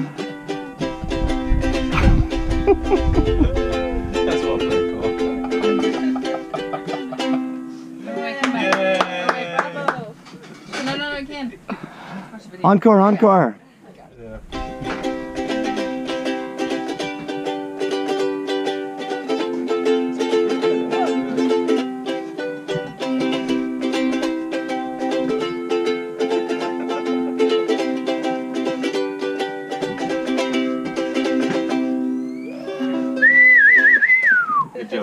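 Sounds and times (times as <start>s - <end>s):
ukulele strumming chords: 0.0s - 11.5s, 14.2s - 35.0s.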